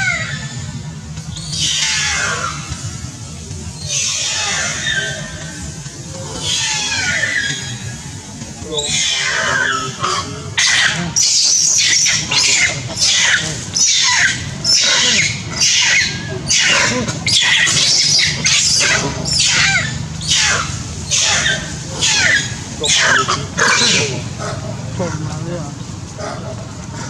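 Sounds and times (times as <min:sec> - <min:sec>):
monkey screaming: 0:00.0 - 0:03.1, 0:03.8 - 0:25.3.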